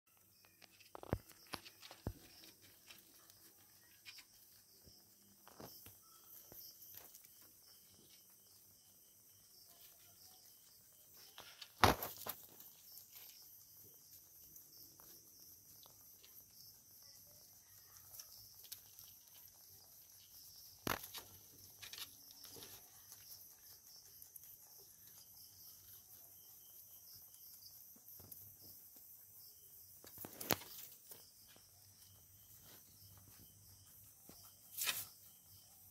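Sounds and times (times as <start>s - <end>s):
rabbits rustling in hay: 0.9s - 8.8s, 9.6s - 29.2s, 30.0s - 35.9s.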